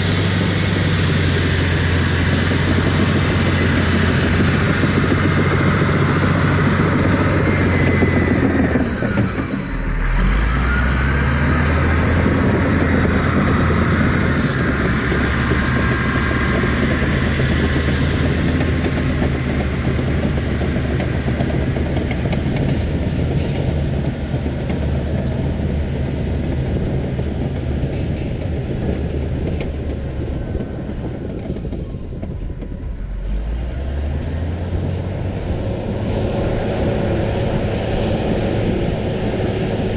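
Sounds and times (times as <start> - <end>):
earthmoving machine engine: 0.0 - 39.9.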